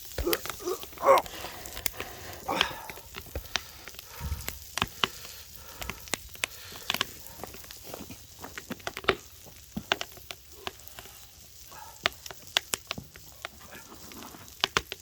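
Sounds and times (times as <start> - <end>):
food sizzling hiss: 0.0 - 15.0
wood fire crackling and popping: 0.0 - 15.0.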